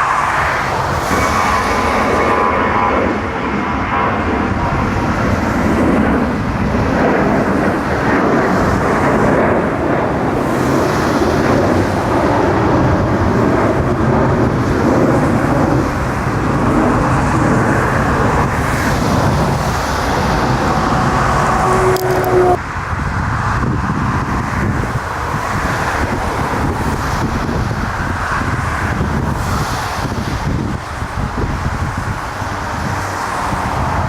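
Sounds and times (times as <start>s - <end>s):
jet engines rumbling: 0.0s - 34.0s
wind buffeting microphone: 0.0s - 34.0s.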